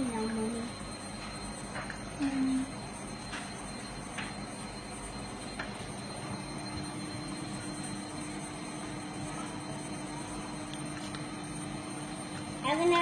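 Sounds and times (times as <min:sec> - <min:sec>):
constant low tone: 0:00.0 - 0:10.9
background hum and hiss: 0:00.0 - 0:13.0.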